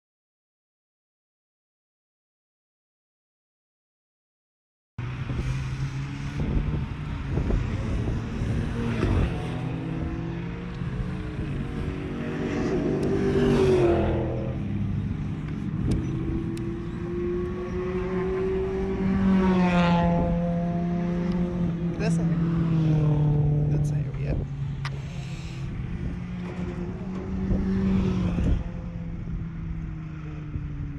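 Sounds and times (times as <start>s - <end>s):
race car engines accelerating: 5.0s - 30.9s.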